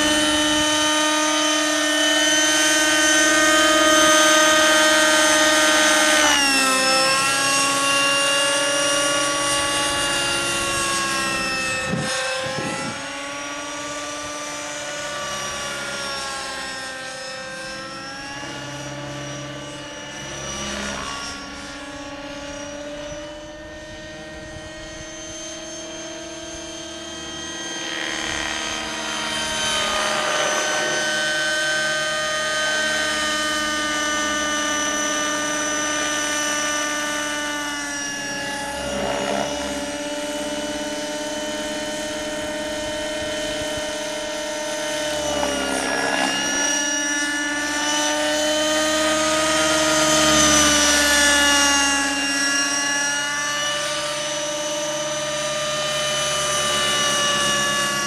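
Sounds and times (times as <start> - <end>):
rc helicopter engine whine: 0.0 - 58.0.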